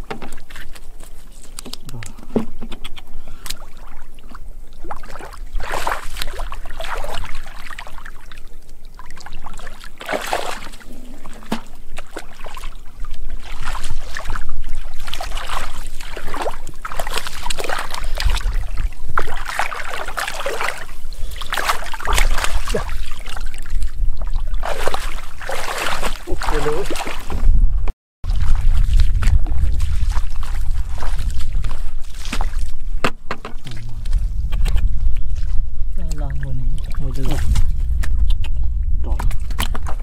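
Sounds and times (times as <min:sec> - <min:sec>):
muddy water sloshing: 0:00.0 - 0:27.6, 0:28.2 - 0:40.0.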